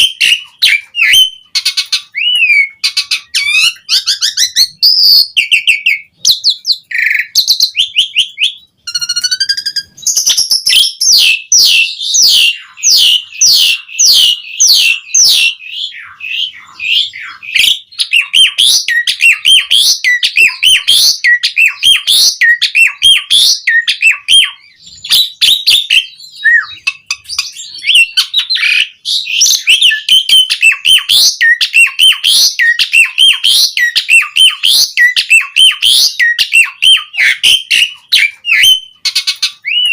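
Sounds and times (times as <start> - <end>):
starling chattering song: 0.0 - 39.9.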